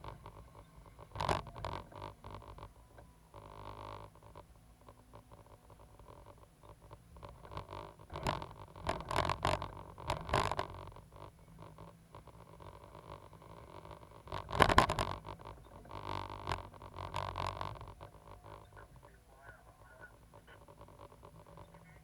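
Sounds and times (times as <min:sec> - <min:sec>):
excavator engine hum: 0:00.0 - 0:22.0.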